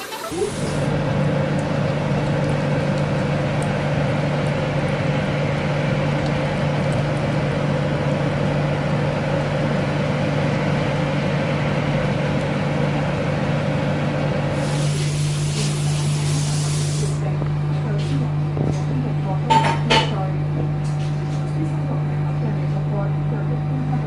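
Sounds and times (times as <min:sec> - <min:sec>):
steady mechanical hum: 0:00.3 - 0:24.0.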